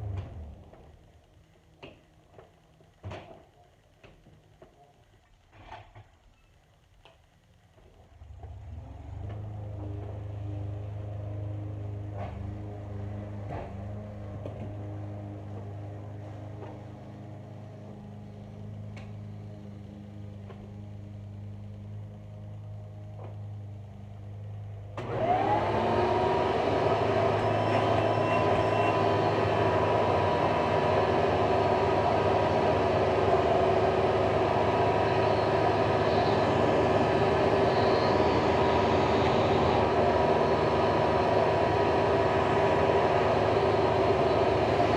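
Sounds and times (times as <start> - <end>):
vacuum cleaner motor running: 8.2 - 44.9.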